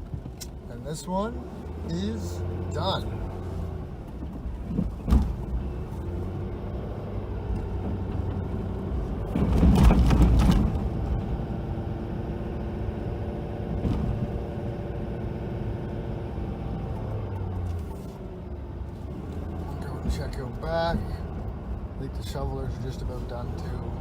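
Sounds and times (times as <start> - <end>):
snowplow engine running: 0.0 - 24.0.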